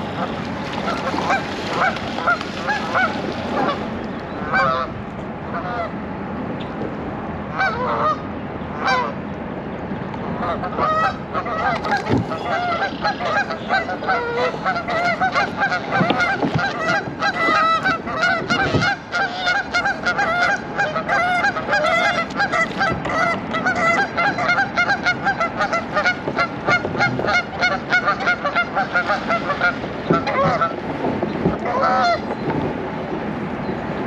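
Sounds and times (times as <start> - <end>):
geese honking: 0.0 - 5.9, 7.5 - 9.2, 10.3 - 30.8, 31.6 - 32.4.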